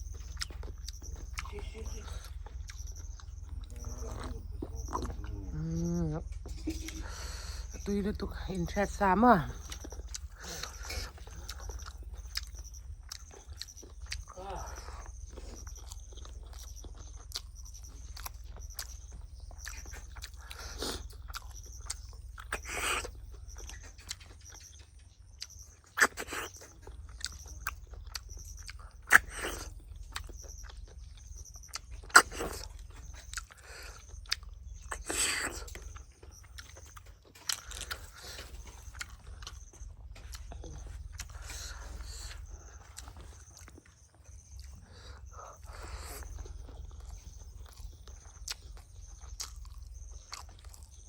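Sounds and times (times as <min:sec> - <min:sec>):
person chewing and biting: 0:00.0 - 0:07.9, 0:09.6 - 0:51.0
steady low hum: 0:00.0 - 0:51.0.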